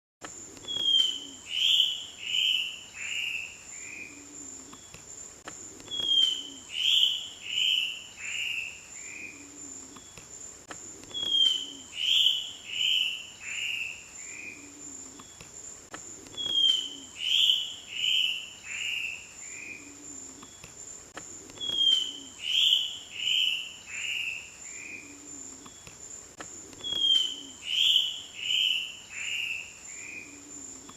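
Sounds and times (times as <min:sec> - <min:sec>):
high insect trill: 0:00.3 - 0:30.9
antbird song with harsh notes: 0:00.6 - 0:05.0, 0:05.9 - 0:10.5, 0:11.1 - 0:15.5, 0:16.3 - 0:25.9, 0:26.8 - 0:30.9.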